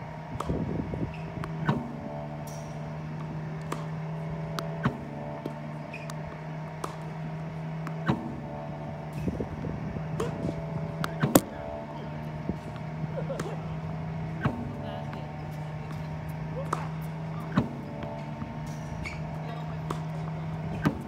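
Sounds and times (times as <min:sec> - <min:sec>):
ball machine motor hum: 0:00.0 - 0:21.0
tennis balls launched and struck: 0:00.0 - 0:21.0.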